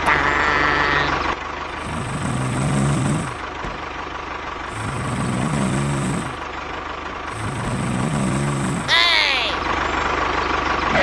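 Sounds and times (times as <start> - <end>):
truck engine idling and revving: 0.0 - 11.0.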